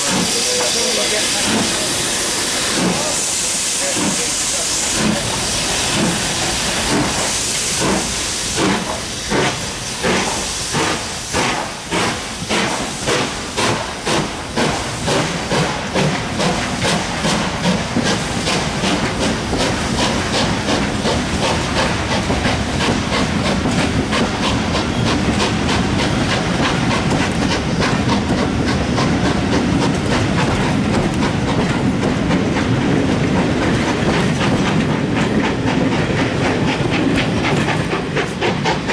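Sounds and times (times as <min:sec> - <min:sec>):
steam hissing: 0:00.0 - 0:38.9
steam locomotive exhaust beats: 0:00.0 - 0:38.9.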